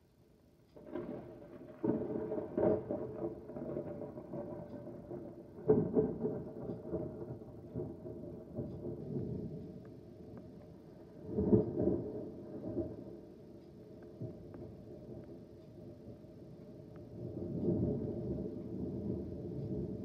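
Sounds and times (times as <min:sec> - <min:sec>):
thunder rolling and rumbling: 0:00.7 - 0:20.0.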